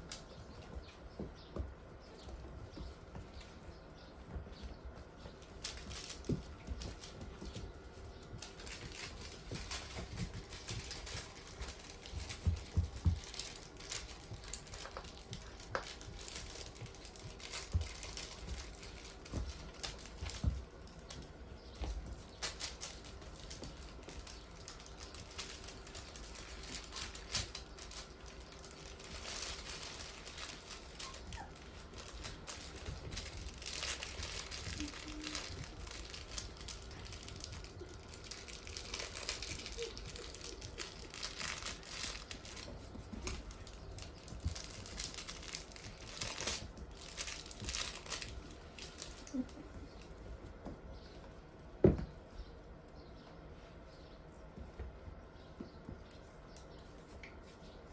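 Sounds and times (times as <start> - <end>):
toys rustling: 0.0 - 52.2
puppy paws pattering: 0.0 - 57.9.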